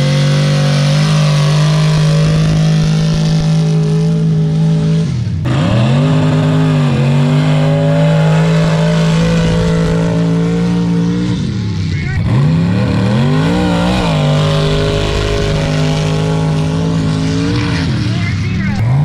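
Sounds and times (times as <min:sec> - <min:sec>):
racing engine at high revs: 0:00.0 - 0:19.0.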